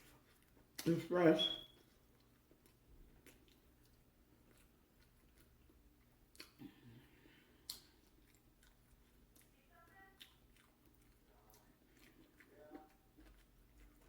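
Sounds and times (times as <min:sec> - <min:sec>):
chewing fried chicken: 0:00.0 - 0:14.0.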